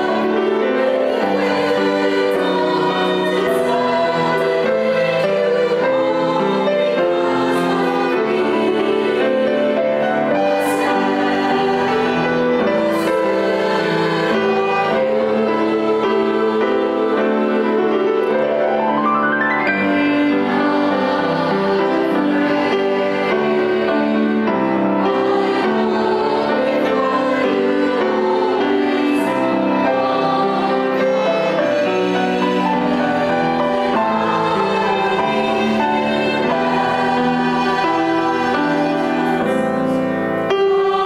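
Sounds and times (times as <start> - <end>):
piano accompaniment: 0.0 - 41.0.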